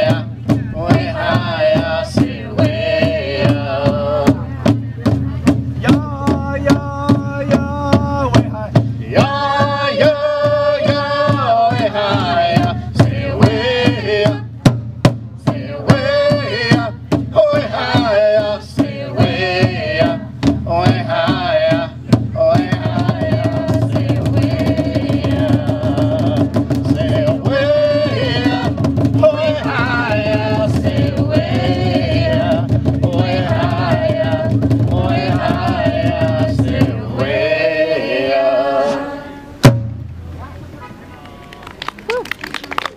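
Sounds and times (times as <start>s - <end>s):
group singing together: 0.0s - 4.5s, 5.9s - 14.7s, 15.4s - 39.7s
large drum beating: 0.0s - 37.6s, 39.6s - 40.4s.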